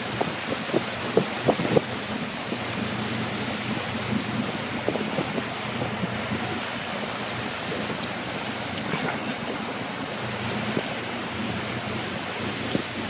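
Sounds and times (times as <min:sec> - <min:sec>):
boat engine hum: 0:00.0 - 0:13.0
rushing water: 0:00.0 - 0:13.0
wind buffeting microphone: 0:00.0 - 0:13.0.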